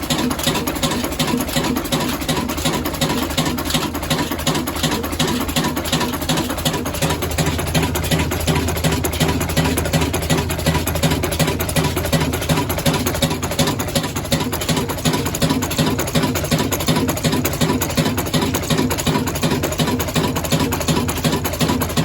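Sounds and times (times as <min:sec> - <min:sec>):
diesel engine running slowly: 0:00.0 - 0:22.0.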